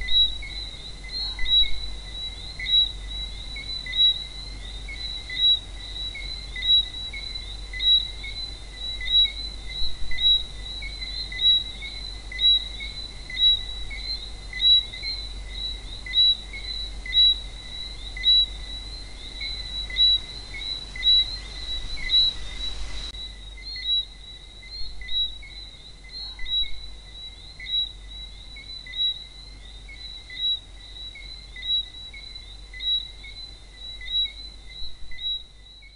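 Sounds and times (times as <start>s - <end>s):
faint background hiss: 0.0s - 35.9s
frogs whistling calls: 0.0s - 35.9s
nearby frog calling: 0.0s - 35.9s.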